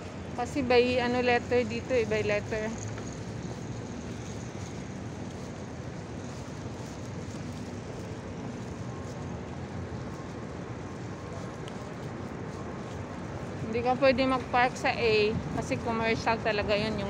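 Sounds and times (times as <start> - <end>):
city road traffic hum: 0.0 - 17.0.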